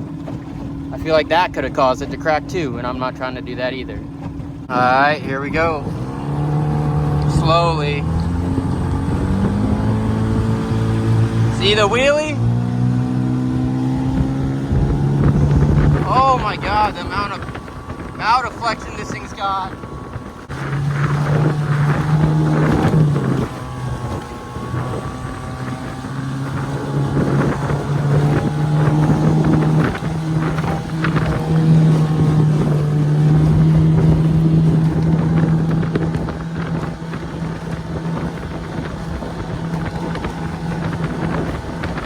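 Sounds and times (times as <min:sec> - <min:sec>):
outboard motor running: 0:00.0 - 0:42.0
wind buffeting microphone: 0:00.0 - 0:42.0.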